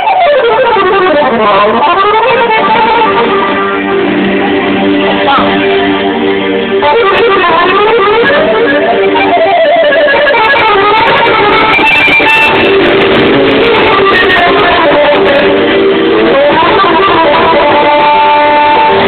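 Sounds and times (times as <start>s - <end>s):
electric guitar runs over chords: 0.0s - 19.0s.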